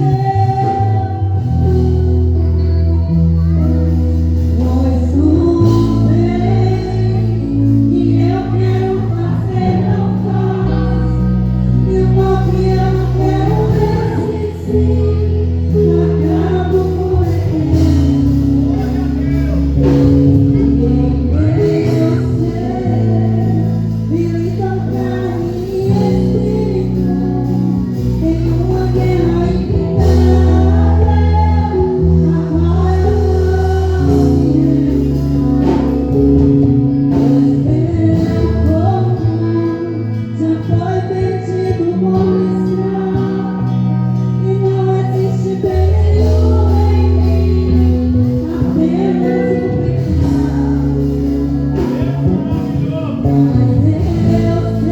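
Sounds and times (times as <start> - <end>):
gospel singing: 0.0 - 54.9
instrumental chords and bass: 0.0 - 54.9.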